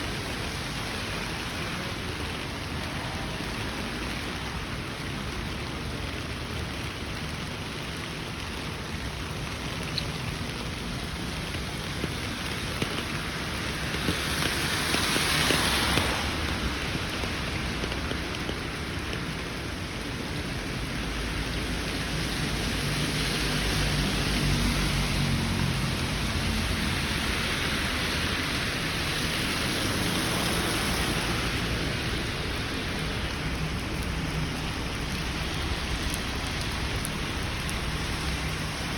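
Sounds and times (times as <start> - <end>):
rain falling on street: 0.0 - 38.9.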